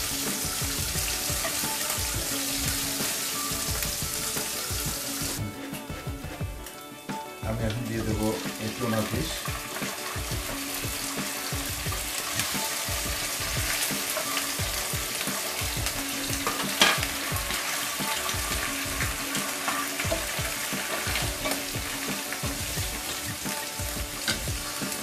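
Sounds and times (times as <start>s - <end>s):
food sizzling in oil: 0.0s - 25.0s
spatula scraping pan: 0.0s - 25.0s.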